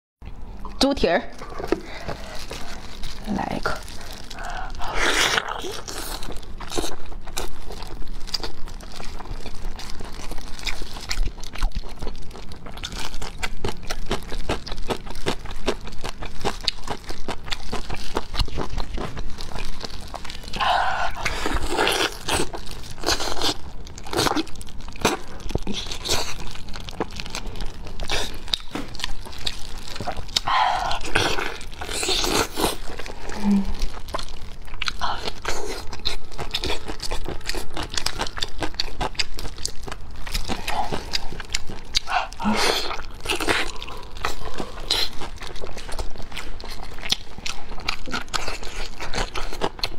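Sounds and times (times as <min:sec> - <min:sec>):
mouth smacks and crunches: 0:01.4 - 0:49.9
wet chewing and biting: 0:01.4 - 0:49.9.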